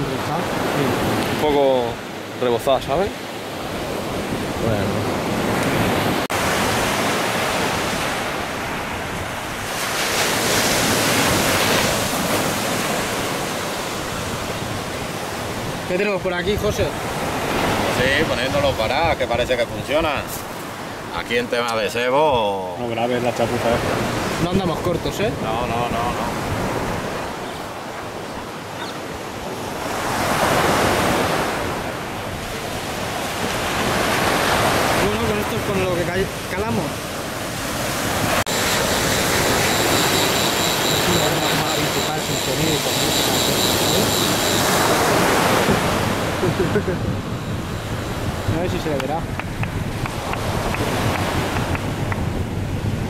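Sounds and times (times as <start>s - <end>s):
wind on the microphone: 0.0s - 21.7s, 23.3s - 53.0s
surf washing on a beach: 0.0s - 53.0s.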